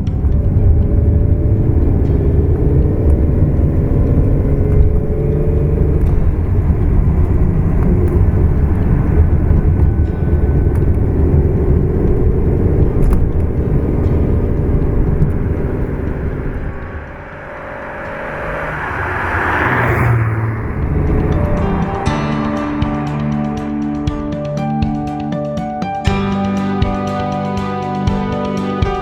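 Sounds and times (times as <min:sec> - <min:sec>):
car engine accelerating: 0:00.0 - 0:25.6.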